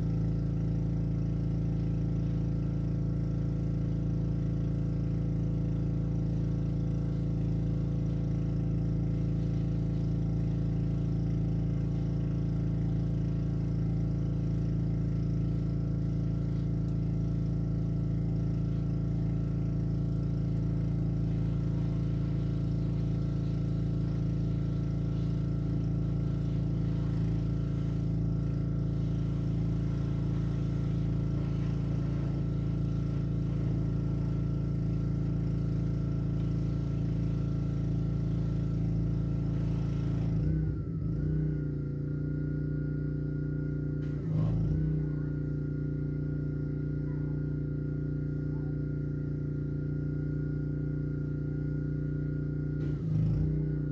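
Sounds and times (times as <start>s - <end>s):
gas pressure washer running: 0.0s - 53.9s.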